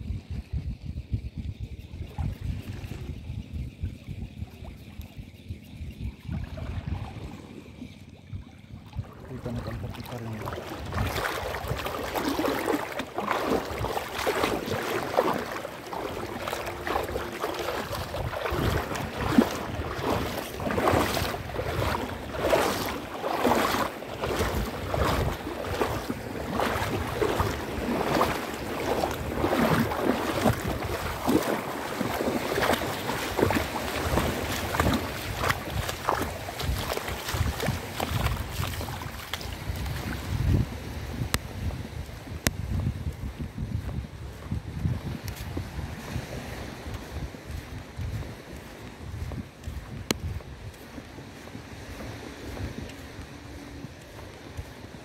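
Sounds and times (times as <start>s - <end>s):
wind on microphone: 0.0s - 55.0s
footsteps sloshing through water: 0.8s - 55.0s.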